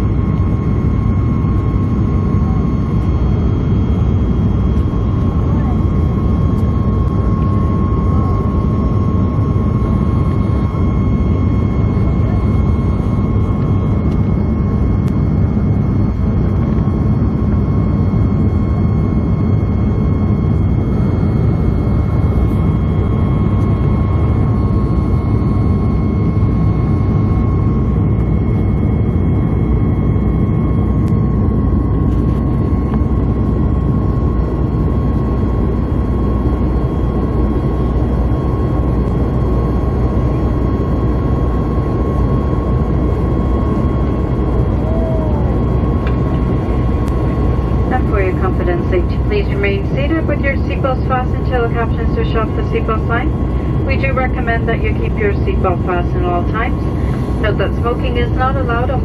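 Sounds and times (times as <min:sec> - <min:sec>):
high engine whine: 0:00.0 - 0:59.0
jet engine cabin rumble: 0:00.0 - 0:59.0.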